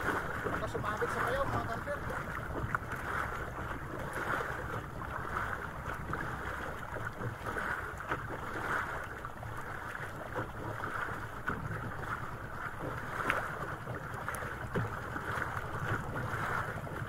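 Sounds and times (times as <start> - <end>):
water washing against boat: 0.0 - 17.0.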